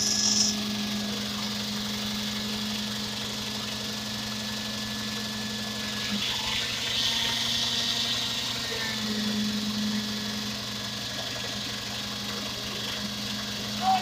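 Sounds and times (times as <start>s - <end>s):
concrete vibrator humming: 0.0s - 14.0s.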